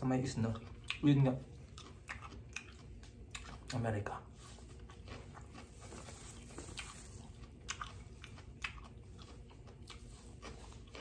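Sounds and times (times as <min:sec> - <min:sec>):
person chewing crunchy produce: 0:00.0 - 0:11.0.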